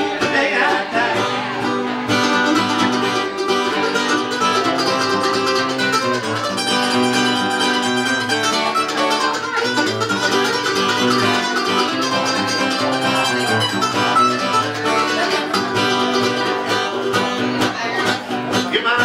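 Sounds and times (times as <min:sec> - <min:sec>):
acoustic guitar strumming: 0:00.0 - 0:19.0
mandolin picking melody: 0:00.0 - 0:19.0.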